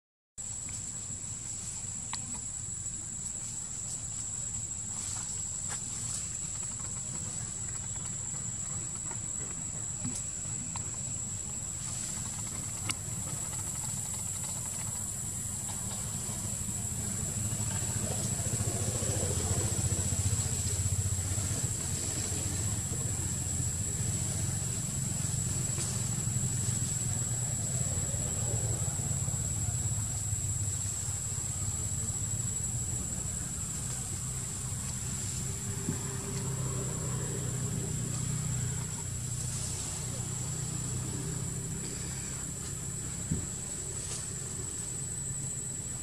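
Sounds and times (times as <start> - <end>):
high-pitched insect drone: 9.2 - 46.0.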